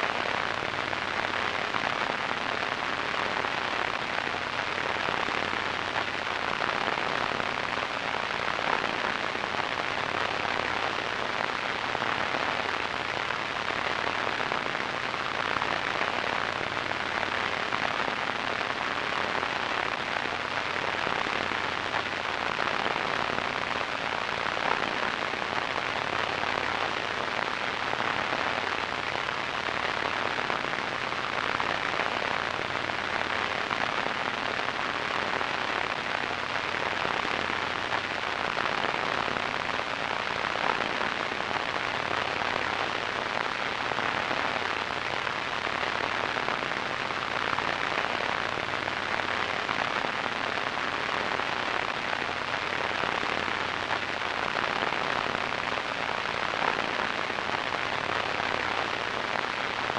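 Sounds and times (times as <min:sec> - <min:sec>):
radio static hiss and crackle: 0:00.0 - 0:59.9.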